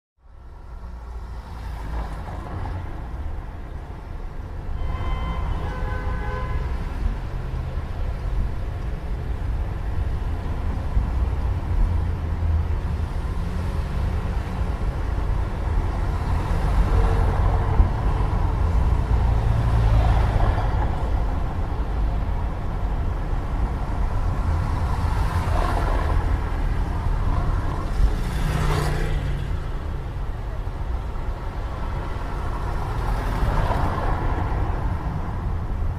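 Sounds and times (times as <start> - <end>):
traffic rumble: 0.2 - 35.9
vehicles passing by: 0.2 - 35.9.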